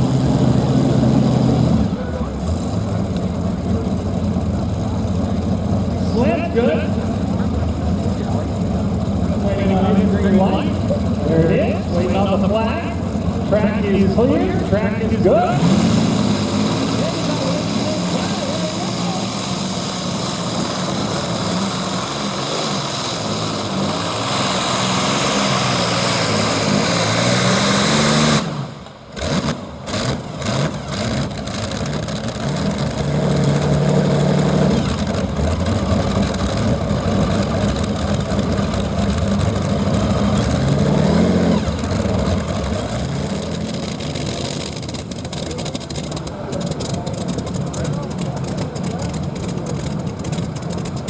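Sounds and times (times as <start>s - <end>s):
tractor engine revving hard: 0.0s - 51.0s.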